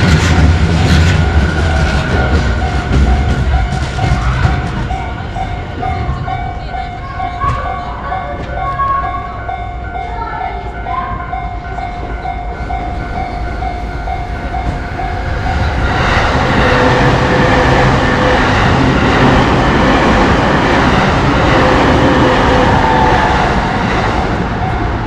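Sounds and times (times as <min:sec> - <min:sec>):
train rumble and wheel noise: 0:00.0 - 0:25.0
level-crossing bell clanging: 0:00.6 - 0:25.0.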